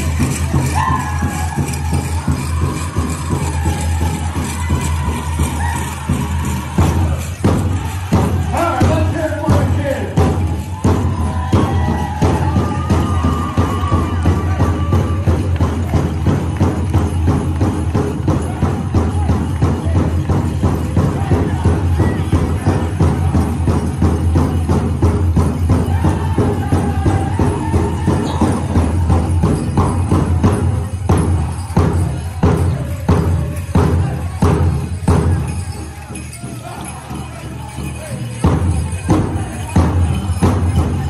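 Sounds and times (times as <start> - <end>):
large drum steady beat: 0.0 - 41.0.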